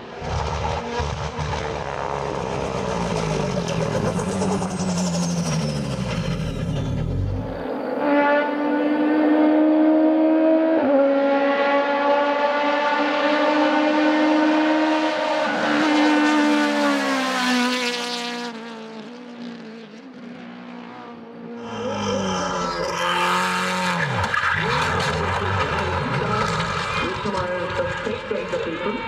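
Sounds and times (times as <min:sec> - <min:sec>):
race car engine passing: 0:00.0 - 0:29.0.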